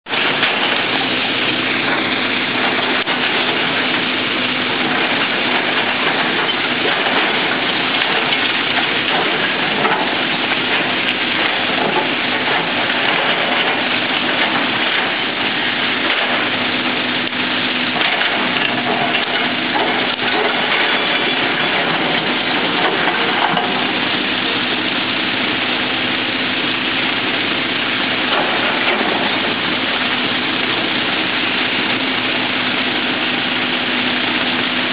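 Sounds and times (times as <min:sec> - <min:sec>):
excavator engine hum: 0:00.1 - 0:34.9.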